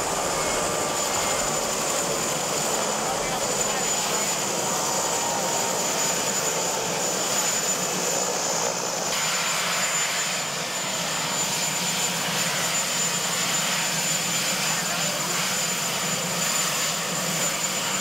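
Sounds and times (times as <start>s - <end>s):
helicopter engine and rotor noise: 0.0s - 18.0s
helicopter turbine whine: 0.0s - 18.0s.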